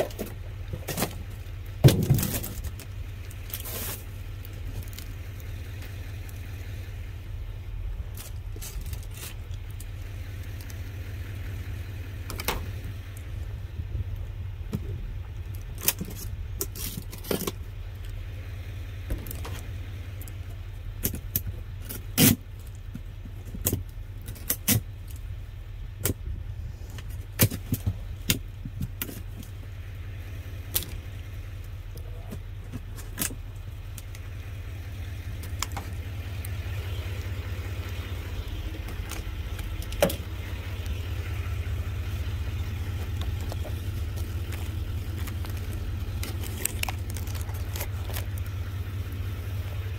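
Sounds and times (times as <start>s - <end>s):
plastic packs and boxes handled: 0.0s - 6.8s, 7.9s - 10.8s, 12.2s - 18.3s, 19.1s - 25.4s, 26.0s - 49.9s
steady low rumble: 0.0s - 49.9s.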